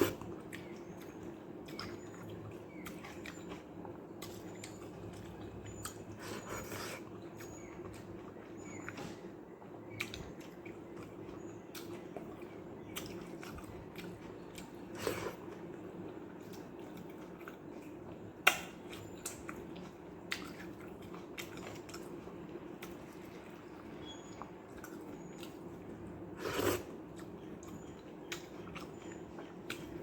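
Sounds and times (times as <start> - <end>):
wet chewing: 0.0 - 9.2, 9.9 - 30.0.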